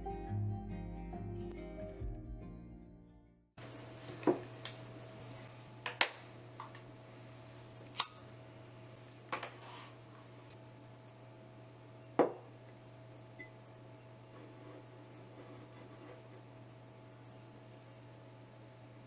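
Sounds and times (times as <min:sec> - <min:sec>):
faint steady hum: 0:02.1 - 0:19.0.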